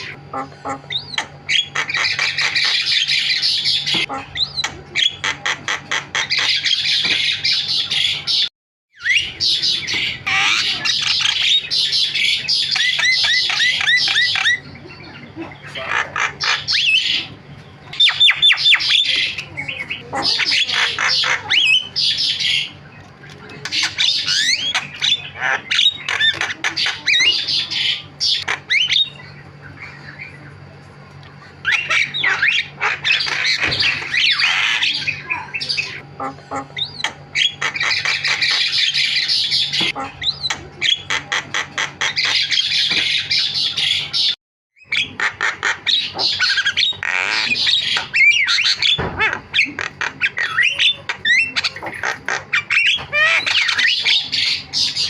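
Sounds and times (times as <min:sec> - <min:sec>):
myna chattering and squawking: 0:00.0 - 0:55.0.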